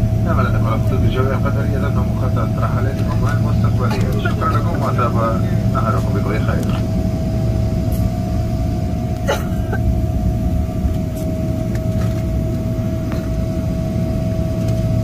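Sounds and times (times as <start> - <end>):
jet engines rumbling: 0.0 - 15.0
steady whine: 0.0 - 15.0.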